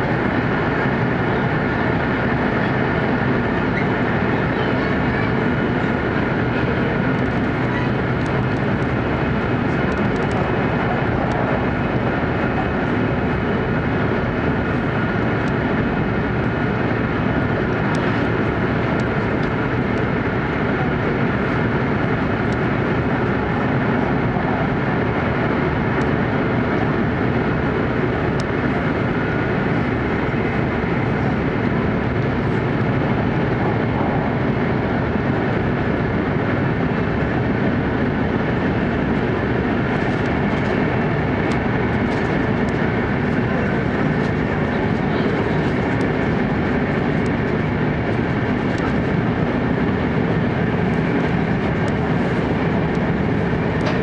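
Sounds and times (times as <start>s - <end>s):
train rumbling through tunnel: 0.0s - 54.0s.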